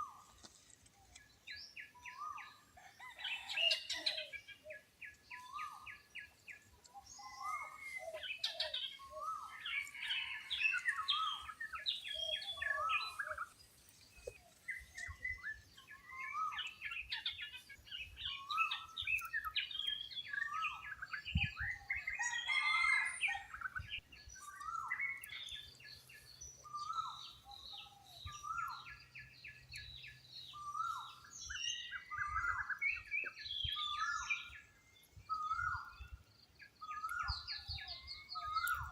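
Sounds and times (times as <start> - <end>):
many birds chirping: 0.0 - 38.9.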